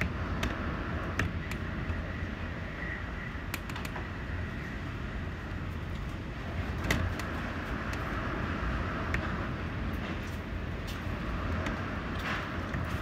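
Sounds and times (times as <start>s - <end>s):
strong wind and heavy rain: 0.0s - 13.0s.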